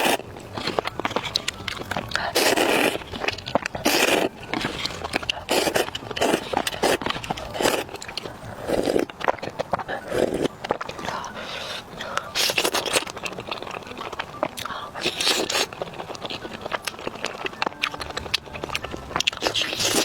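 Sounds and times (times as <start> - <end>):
biting and chewing: 0.0 - 20.0
crisp clicks and crackles: 0.0 - 20.0.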